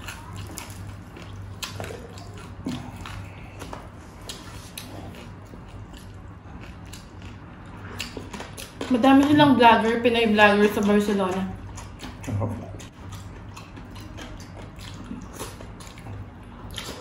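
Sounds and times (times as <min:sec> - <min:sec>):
wet chewing and lip smacking: 0:00.0 - 0:09.3, 0:10.6 - 0:17.0
low steady hum: 0:00.0 - 0:17.0.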